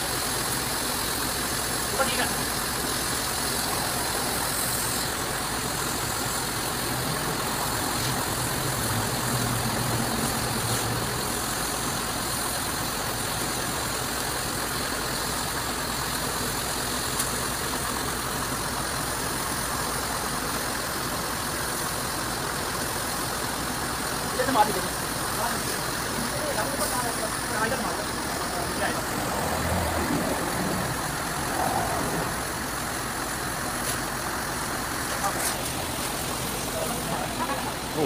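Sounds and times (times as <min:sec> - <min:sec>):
high-pressure water jet hissing: 0:00.0 - 0:38.0
pump motor hum: 0:00.0 - 0:38.0.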